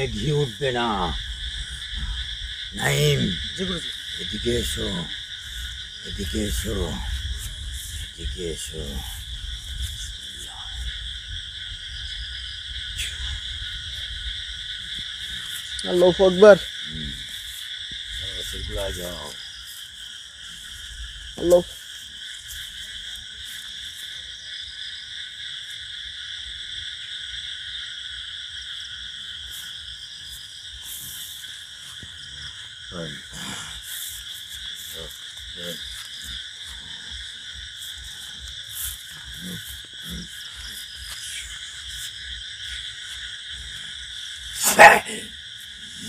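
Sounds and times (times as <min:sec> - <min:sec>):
night insects chorus: 0:00.0 - 0:46.0.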